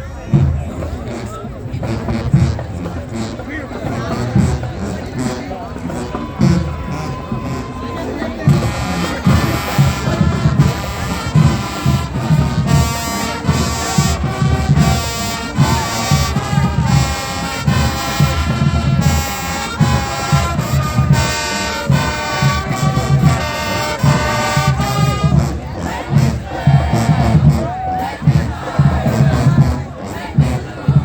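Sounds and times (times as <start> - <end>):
pounding drum beat: 0.3 - 31.0
brass horns playing melody: 1.0 - 31.0.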